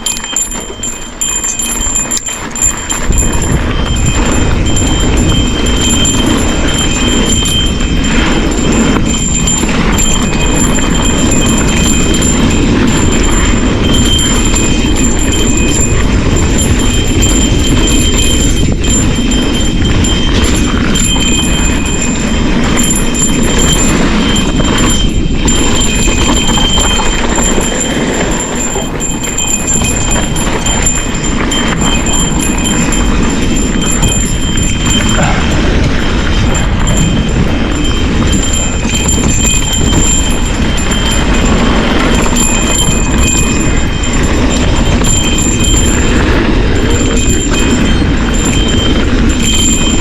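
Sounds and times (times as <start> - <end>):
cow bell clanking: 0.0 - 50.0
mountain bike rattling: 0.0 - 50.0
heavy low rumble: 2.6 - 50.0.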